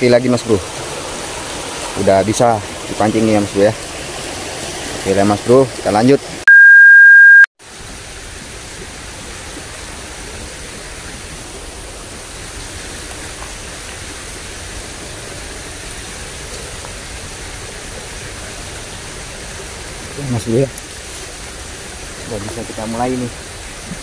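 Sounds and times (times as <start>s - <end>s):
water rushing in a ditch: 0.0s - 6.4s, 7.6s - 24.0s.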